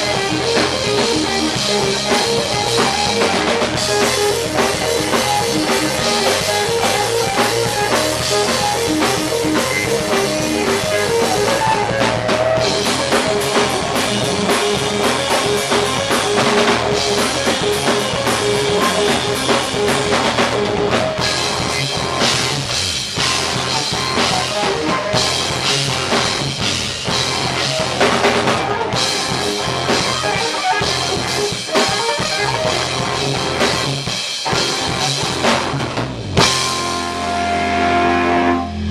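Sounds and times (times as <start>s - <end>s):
drum kit pounding: 0.0s - 38.9s
guitar: 0.0s - 38.9s
rock band playing live: 0.0s - 38.9s.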